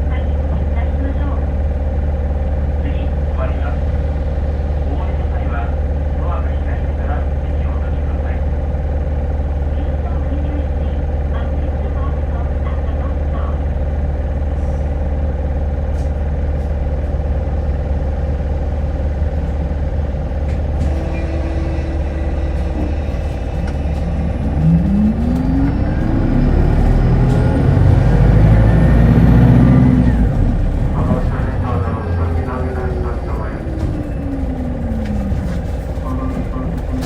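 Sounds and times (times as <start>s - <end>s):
bus engine hum: 0.0s - 37.0s.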